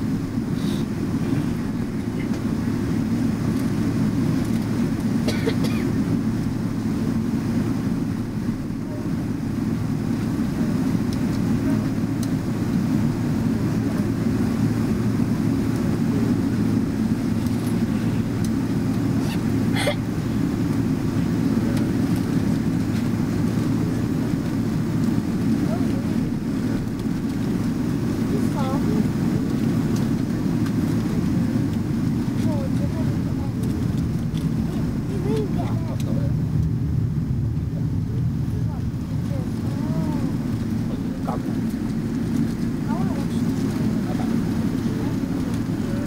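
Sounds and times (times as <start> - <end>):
jet engine rumble in cabin: 0.0 - 46.0.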